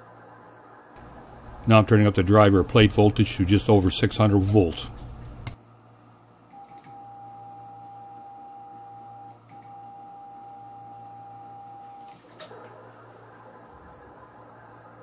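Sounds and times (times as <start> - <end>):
low equipment hum: 0.6 - 15.0.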